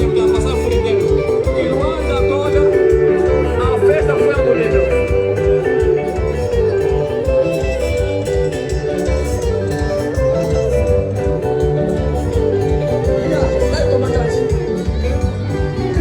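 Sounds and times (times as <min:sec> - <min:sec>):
live band music with guitars: 0:00.0 - 0:16.0.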